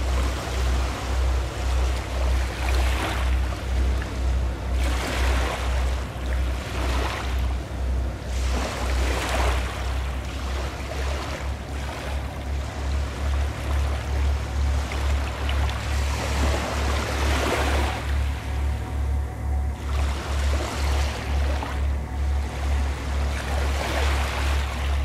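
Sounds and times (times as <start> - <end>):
low pulsing rumble: 0.0 - 25.0
sea waves washing in: 0.0 - 25.0.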